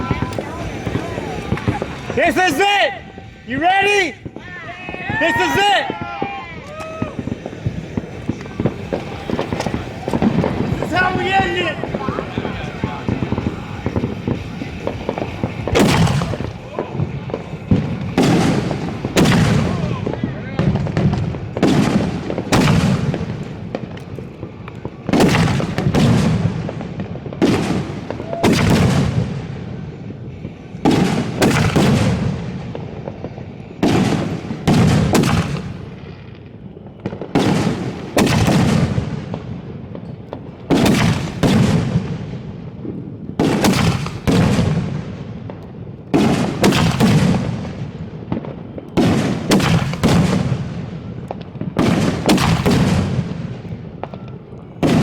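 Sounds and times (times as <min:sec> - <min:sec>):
fireworks launches and bursts: 0:00.0 - 0:55.0.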